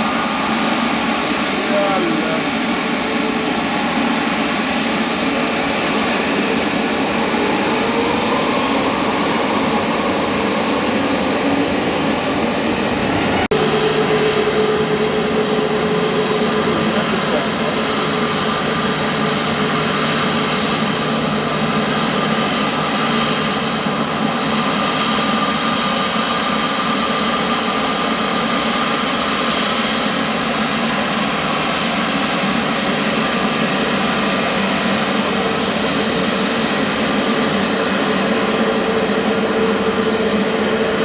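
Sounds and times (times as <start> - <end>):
jet engines rushing and whining: 0.0 - 41.0.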